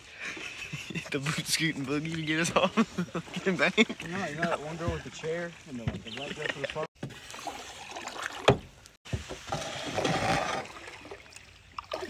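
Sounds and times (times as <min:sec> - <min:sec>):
paddle stroking through water: 0:00.4 - 0:12.0
water sloshing and splashing: 0:00.4 - 0:12.0.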